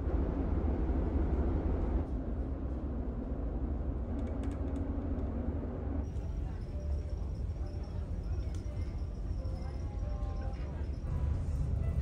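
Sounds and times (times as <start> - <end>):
ship engines low rumble: 0.0 - 12.0.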